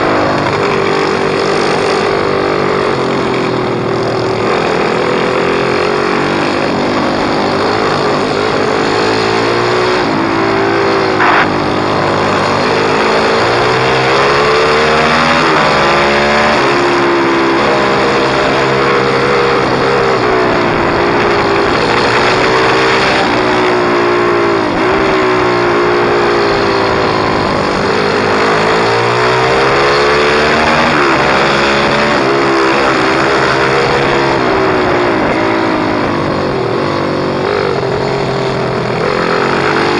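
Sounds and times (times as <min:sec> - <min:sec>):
pit bike engine revving: 0:00.0 - 0:39.9
steady rush of noise: 0:00.0 - 0:39.9.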